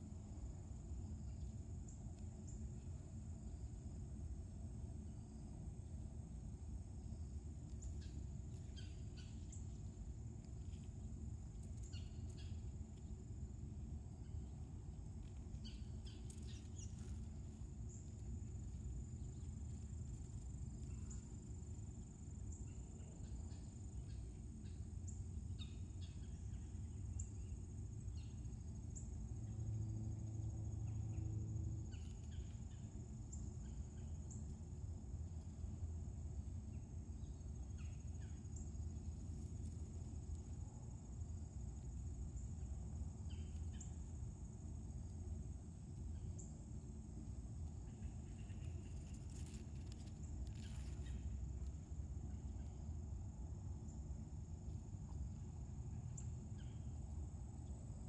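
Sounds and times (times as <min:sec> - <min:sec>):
high insect drone: 0:00.0 - 0:58.0
low hum: 0:00.0 - 0:58.0.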